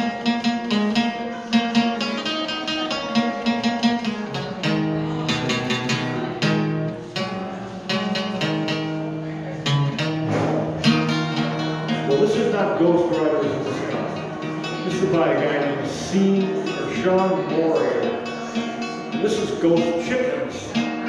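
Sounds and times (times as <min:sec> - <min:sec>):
guitar picked chords and notes: 0:00.0 - 0:21.0.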